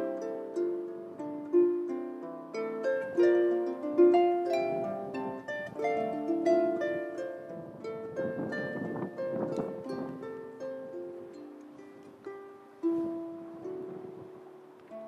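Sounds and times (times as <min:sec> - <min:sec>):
solo harp melody: 0:00.0 - 0:15.0.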